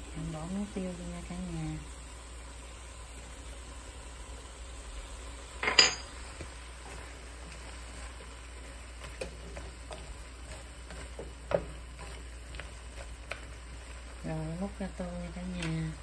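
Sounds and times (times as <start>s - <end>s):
frying sizzle: 0.0s - 16.0s.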